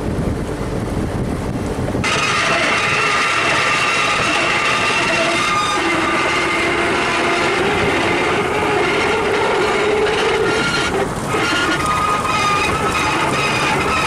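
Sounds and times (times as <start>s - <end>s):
boat engine drone: 0.0s - 14.0s
high whining tones: 2.0s - 14.0s.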